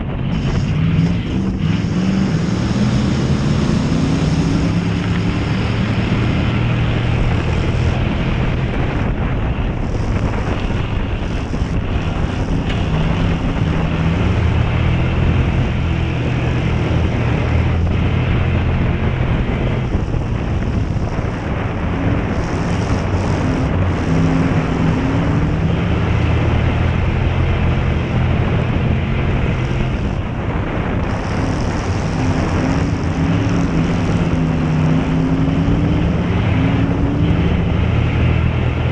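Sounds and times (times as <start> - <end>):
race car engine running hard: 0.0 - 38.9
road noise: 0.0 - 38.9
wind noise: 0.0 - 38.9.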